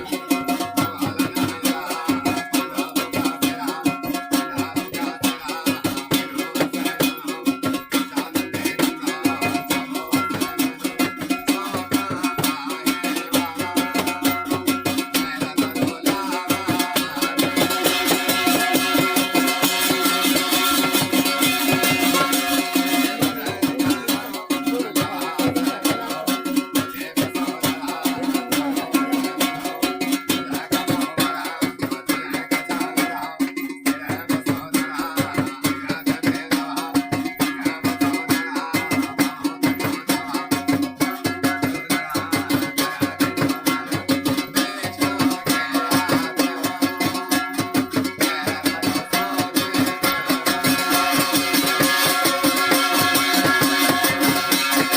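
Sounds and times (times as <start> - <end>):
fast folk music with drone: 0.0 - 54.9.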